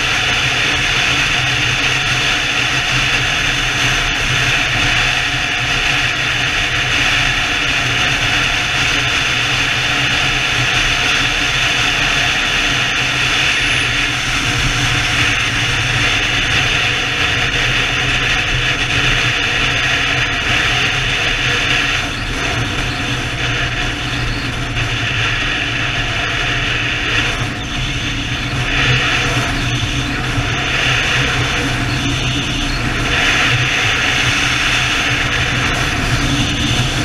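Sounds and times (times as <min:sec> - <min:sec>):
motorcycle engine drone: 0:00.0 - 0:37.0
wind rush: 0:00.0 - 0:37.0.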